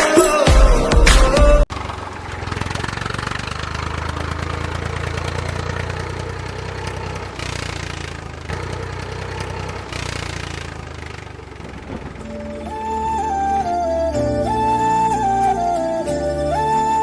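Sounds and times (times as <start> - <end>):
tractor diesel engine driving by: 1.5 - 17.0.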